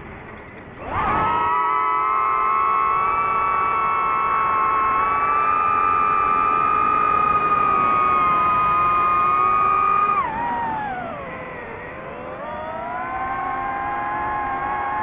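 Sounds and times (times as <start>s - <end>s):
drone propellers whining: 0.5s - 15.0s.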